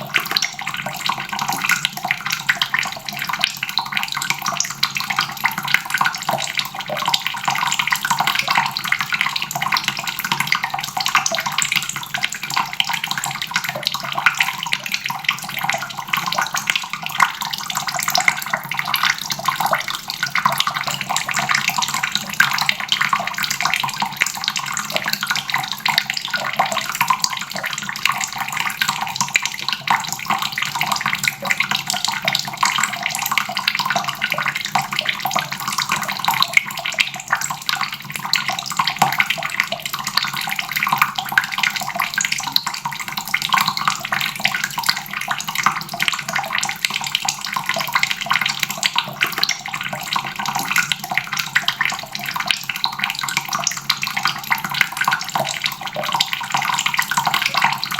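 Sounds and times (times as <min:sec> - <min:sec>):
faucet running into basin: 0:00.0 - 0:57.9.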